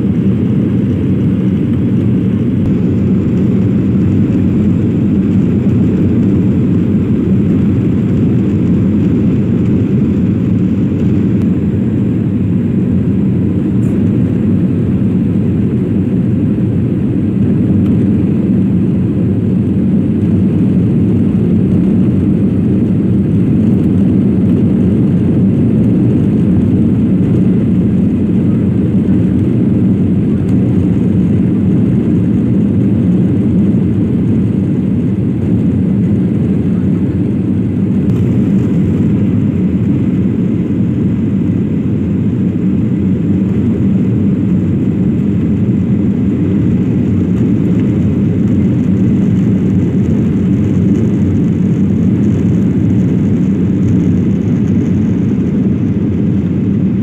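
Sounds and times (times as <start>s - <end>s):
jet airliner cabin noise: 0.0s - 57.0s.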